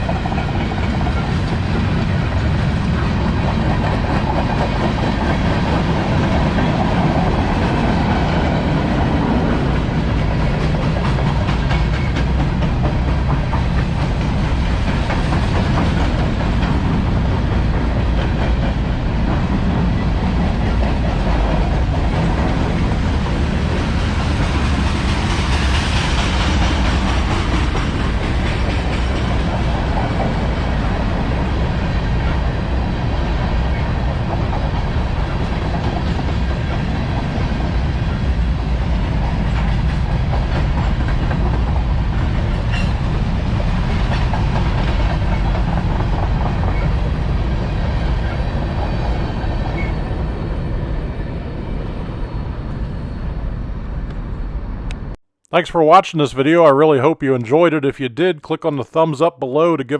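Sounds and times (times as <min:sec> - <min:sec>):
wheels clacking over rail joints: 0:00.0 - 0:50.2
freight train rumbling past: 0:00.0 - 0:56.6.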